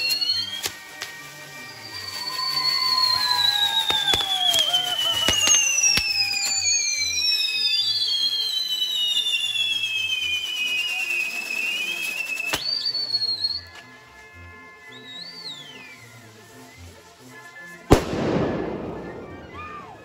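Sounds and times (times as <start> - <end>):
shrill firework whistles: 0.0 - 13.8, 14.8 - 16.8, 17.5 - 20.0
firework pops and cracks: 0.0 - 13.9, 17.9 - 20.0.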